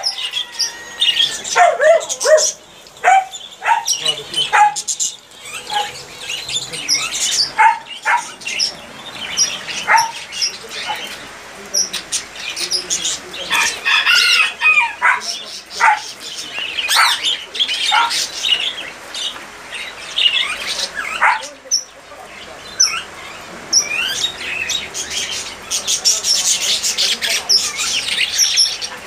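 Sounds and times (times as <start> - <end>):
birds chirping and squawking: 0.0 - 29.0.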